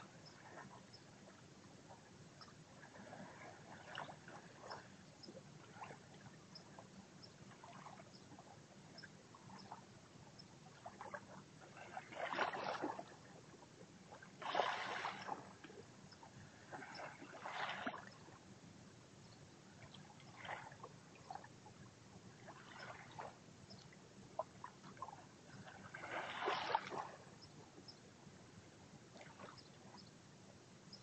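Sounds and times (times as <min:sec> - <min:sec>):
small waves lapping on beach: 0:00.0 - 0:30.1.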